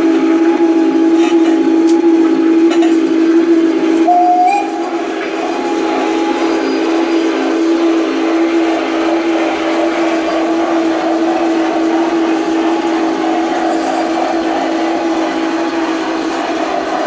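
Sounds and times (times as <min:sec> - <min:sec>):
model locomotive motor whine: 0:00.0 - 0:17.0.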